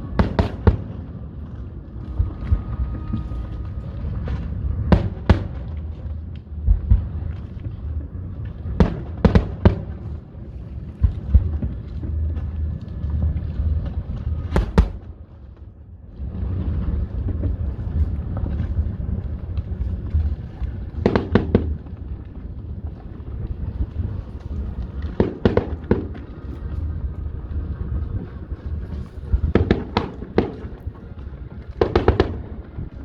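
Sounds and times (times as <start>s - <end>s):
continuous low rumble: 0.0s - 33.0s.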